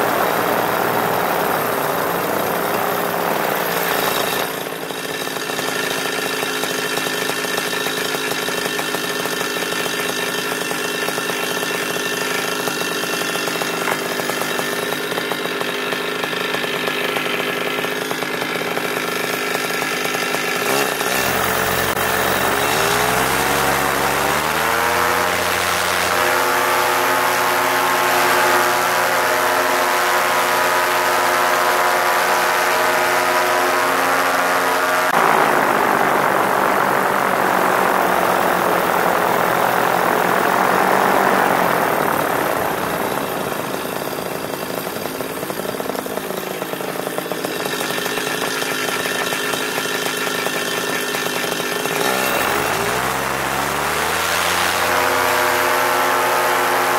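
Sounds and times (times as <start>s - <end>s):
paramotor engine revving: 0.0s - 56.9s.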